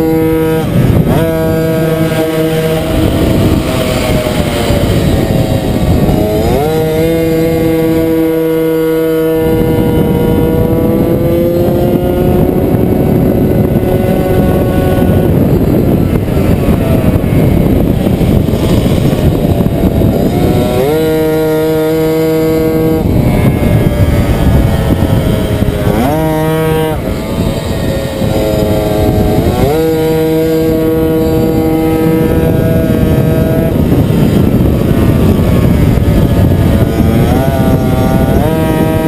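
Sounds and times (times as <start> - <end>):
moped engine at high revs: 0.0 - 39.0
rushing wind noise: 0.0 - 39.0.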